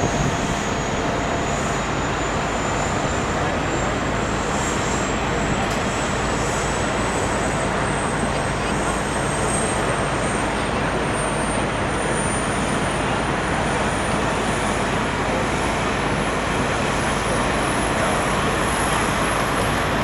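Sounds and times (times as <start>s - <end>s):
high engine whine: 0.0s - 20.0s
jet engines roaring: 0.0s - 20.0s.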